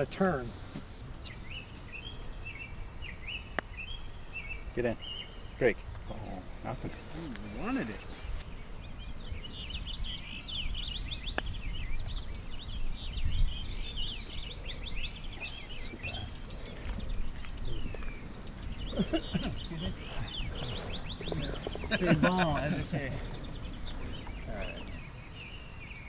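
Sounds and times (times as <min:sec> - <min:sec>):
birds chirping: 0:00.0 - 0:26.0
wind rumble on microphone: 0:00.6 - 0:26.0.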